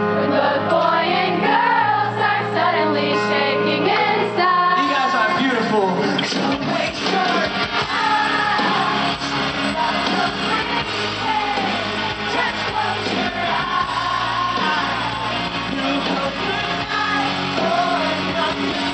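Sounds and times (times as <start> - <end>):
rock band playing: 0.0 - 18.9
person singing: 2.6 - 18.9.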